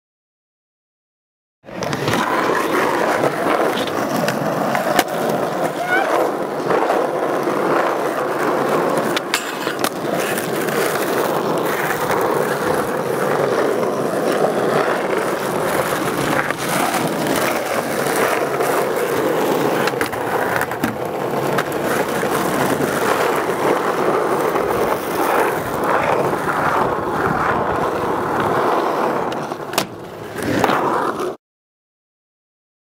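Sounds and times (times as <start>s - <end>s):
skateboard wheels rolling on concrete: 1.6s - 31.4s
skateboard clacking: 1.7s - 31.4s.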